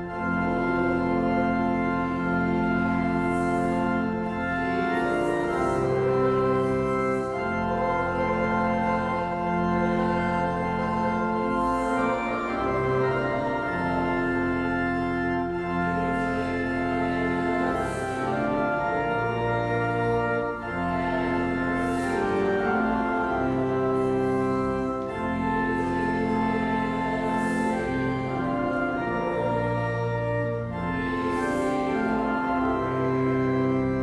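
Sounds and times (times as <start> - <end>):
organ playing a hymn: 0.0 - 34.0.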